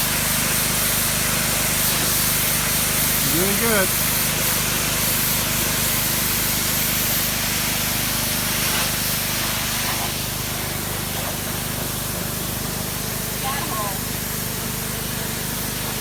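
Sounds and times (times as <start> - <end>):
pressure washer motor hum: 0.0 - 16.0
pressure washer water jet hiss: 0.0 - 16.0.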